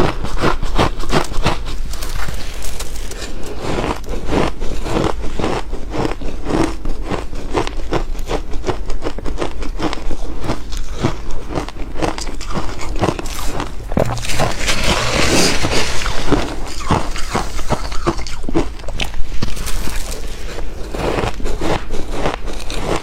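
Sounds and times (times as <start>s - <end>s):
ice crunching being chewed: 0.0s - 23.0s.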